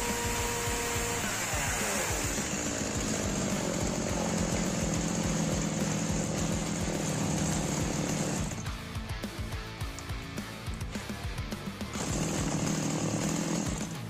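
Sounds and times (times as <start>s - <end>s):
chainsaw running: 0.0s - 9.1s, 10.6s - 14.0s.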